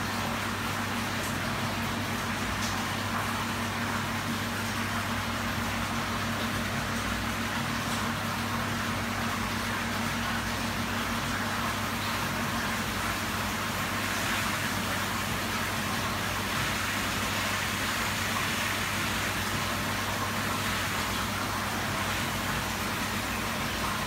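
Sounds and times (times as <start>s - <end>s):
water rushing through filter: 0.0s - 24.0s.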